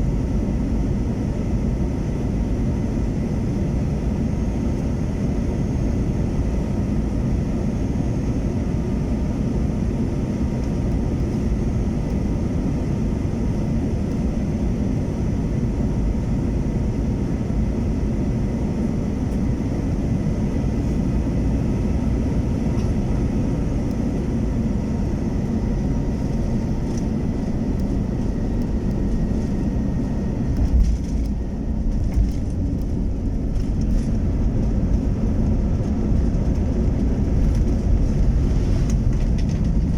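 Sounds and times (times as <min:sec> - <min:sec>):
faint engine whine: 0:00.0 - 0:39.9
jet engines rumbling: 0:00.0 - 0:39.9.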